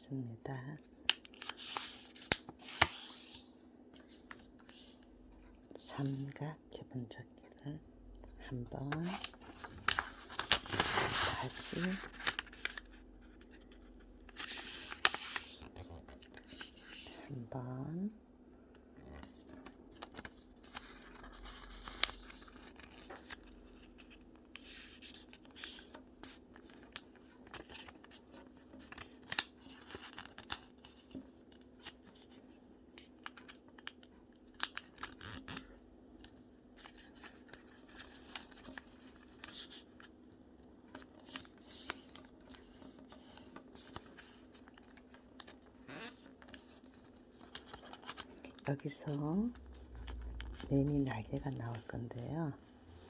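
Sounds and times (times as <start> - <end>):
paper crackling and rustling: 1.0 - 5.5, 8.8 - 17.3, 19.0 - 53.0.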